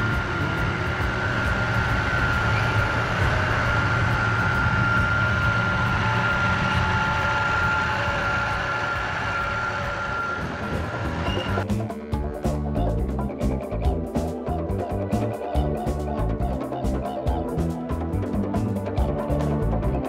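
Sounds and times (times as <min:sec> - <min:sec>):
diesel engines low rumble: 0:00.0 - 0:20.0
high whine: 0:00.0 - 0:20.0.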